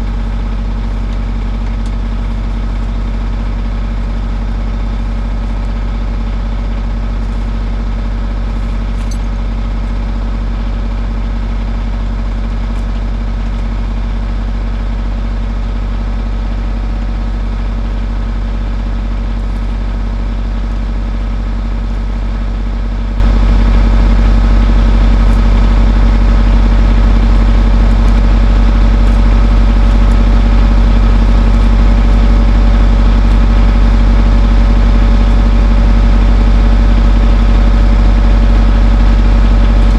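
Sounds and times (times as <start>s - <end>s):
skid steer engine drone: 0.0s - 39.9s.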